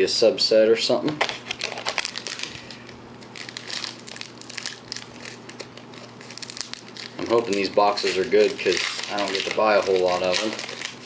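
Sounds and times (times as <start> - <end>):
foil wrapper crinkling: 1.2 - 11.0.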